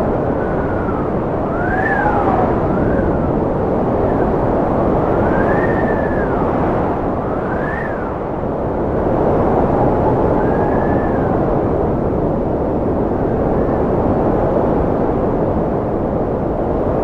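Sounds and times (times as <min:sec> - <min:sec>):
wind rushing: 0:00.0 - 0:15.9
wind whistling tones: 0:00.0 - 0:17.0.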